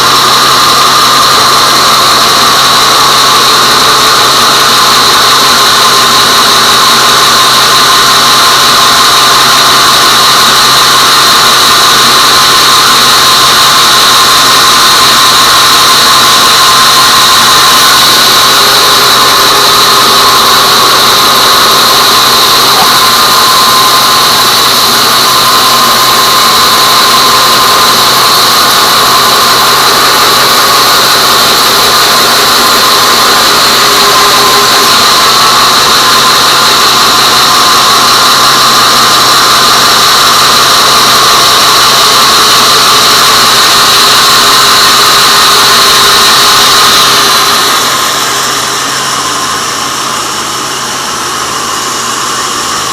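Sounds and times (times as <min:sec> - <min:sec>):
band sawmill sawing wood: 0:00.0 - 0:52.9.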